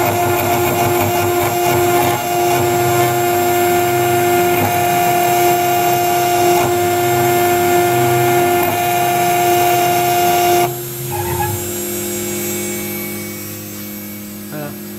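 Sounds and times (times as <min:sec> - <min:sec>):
engraving router whining and cutting: 0:00.0 - 0:14.9.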